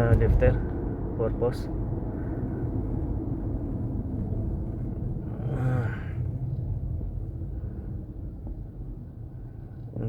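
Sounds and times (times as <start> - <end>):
road rumble: 0.0 - 10.0
truck drivetrain hum: 0.0 - 10.0.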